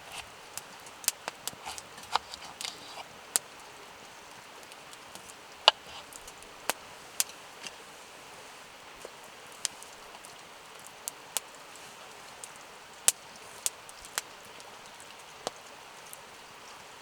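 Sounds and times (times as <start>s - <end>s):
campfire crackling and popping: 0.0s - 8.0s, 8.7s - 16.5s.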